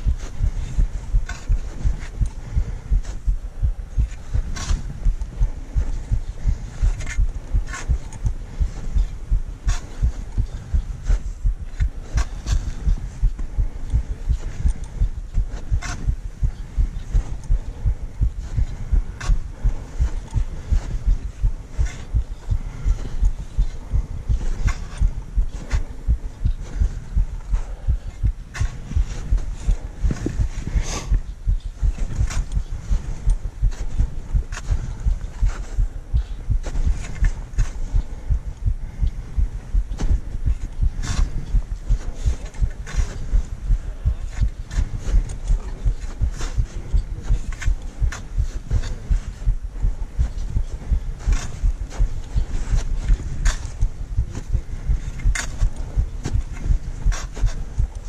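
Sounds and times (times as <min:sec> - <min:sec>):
footsteps in snow: 0:00.0 - 0:58.0.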